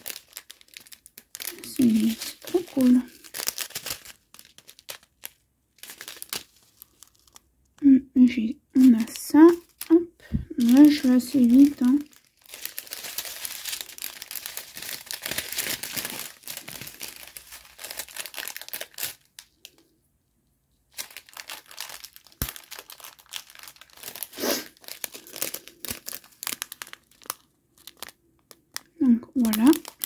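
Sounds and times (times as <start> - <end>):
plastic packets crinkling: 0.0 - 20.0, 20.9 - 30.0.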